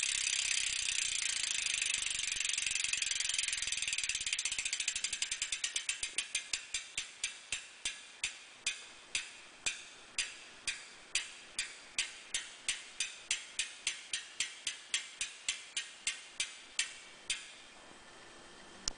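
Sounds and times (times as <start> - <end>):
bicycle hub ratchet clicking: 0.0 - 17.6.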